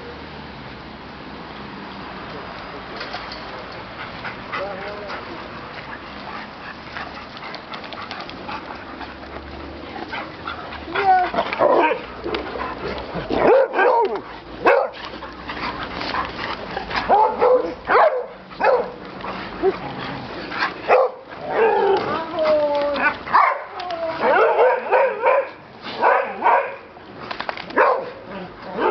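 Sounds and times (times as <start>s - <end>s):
dogs barking and yipping: 3.6s - 28.9s.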